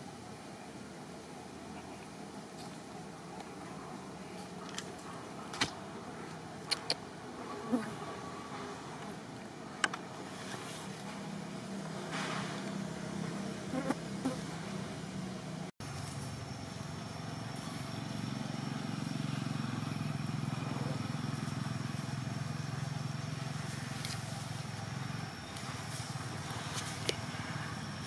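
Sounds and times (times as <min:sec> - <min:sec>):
outdoor background hum: 0:00.0 - 0:28.0.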